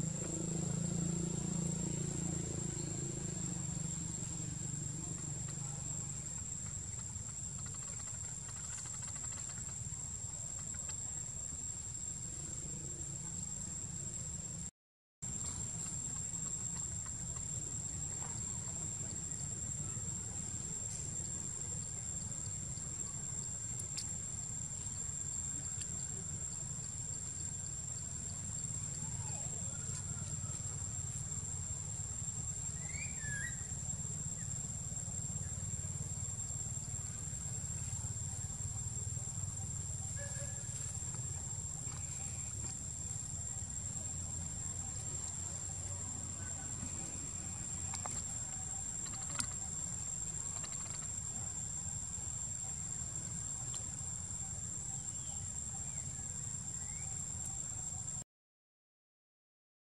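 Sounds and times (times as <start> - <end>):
outdoor background rumble: 0.0 - 57.0
insects droning: 0.0 - 58.2.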